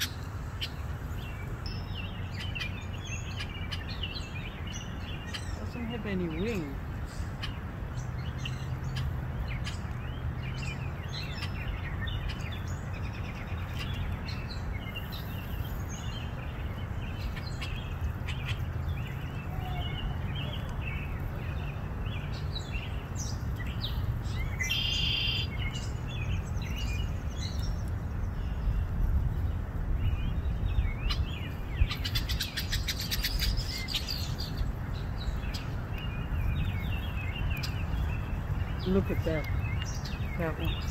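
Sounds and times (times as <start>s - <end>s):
birds chirping and calling: 0.0s - 40.9s
wind rumble on microphone: 0.0s - 40.9s.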